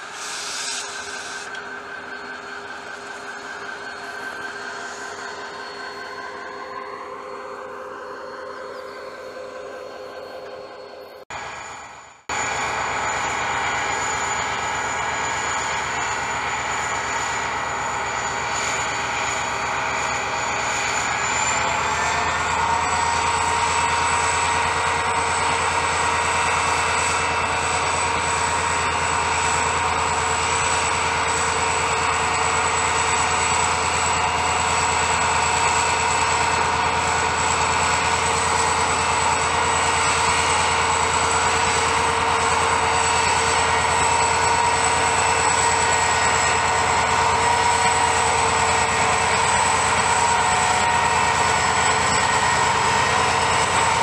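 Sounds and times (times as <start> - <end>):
diesel locomotive engine drone: 0.0 - 54.0
high whine: 0.0 - 54.0.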